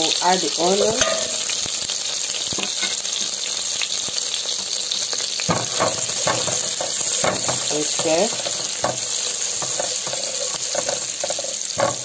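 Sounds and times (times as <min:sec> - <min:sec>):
onion sizzling in a pot: 0:00.0 - 0:12.0.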